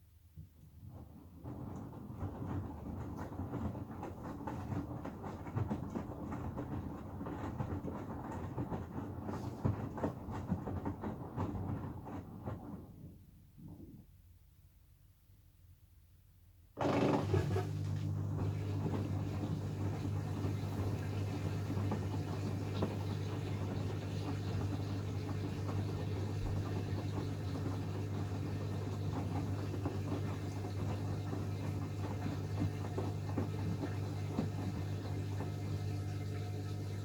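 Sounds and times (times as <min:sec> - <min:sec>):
washing machine humming: 0:00.4 - 0:13.5, 0:16.8 - 0:37.0.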